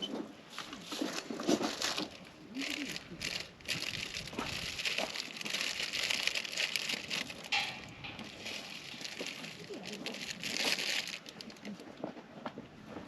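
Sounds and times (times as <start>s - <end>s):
wood campfire crackling: 0.4s - 12.1s.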